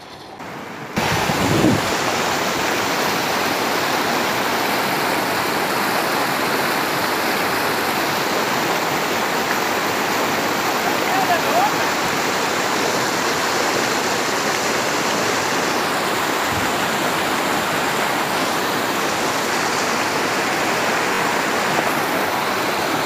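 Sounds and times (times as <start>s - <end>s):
river rushing over rapids: 0.4s - 23.0s.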